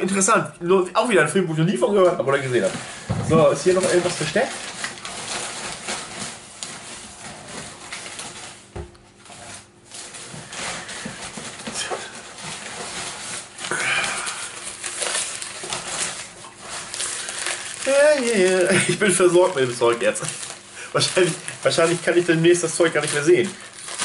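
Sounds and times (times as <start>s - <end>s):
paper packing material rustling: 1.8s - 24.0s.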